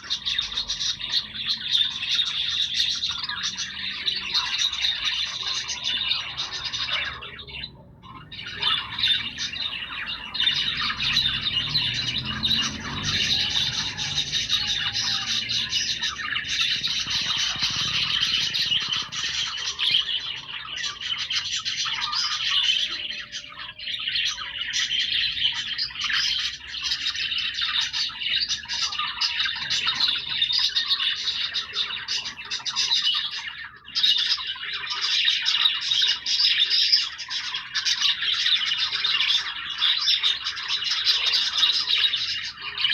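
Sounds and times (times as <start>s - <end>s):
budgerigars chattering and chirping: 0.0s - 42.9s.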